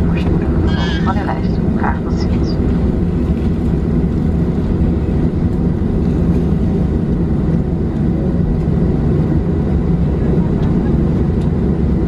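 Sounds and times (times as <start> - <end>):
airplane cabin low rumble: 0.0 - 12.0
jet engines humming at idle: 0.0 - 12.0.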